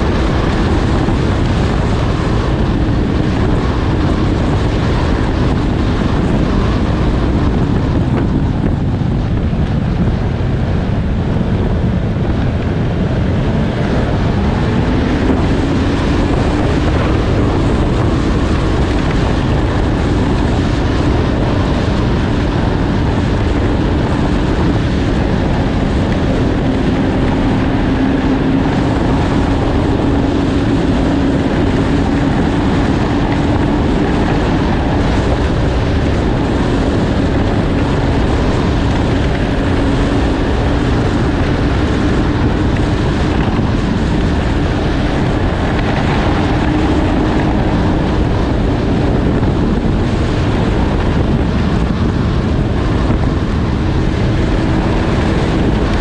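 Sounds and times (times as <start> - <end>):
snowmobile engine running: 0.0 - 56.0
wind noise on microphone: 0.0 - 56.0.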